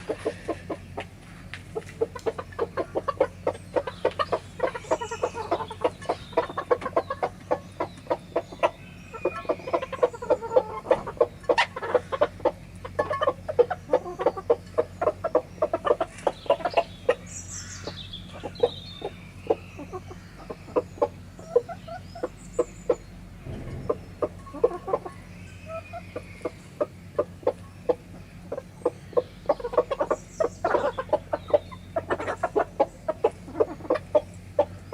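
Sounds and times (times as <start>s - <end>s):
chicken calls: 0.0s - 34.9s
chickens clucking: 0.0s - 34.9s.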